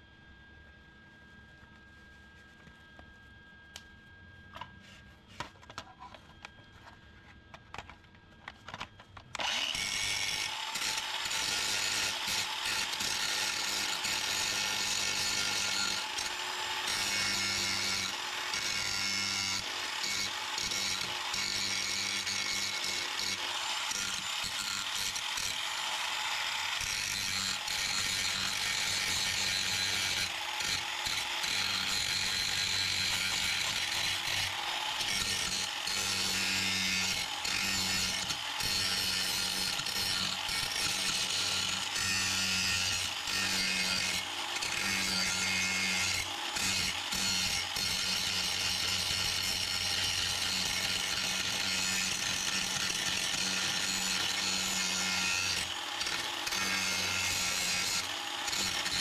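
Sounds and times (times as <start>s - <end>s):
angle grinder grinding metal: 8.7s - 59.0s.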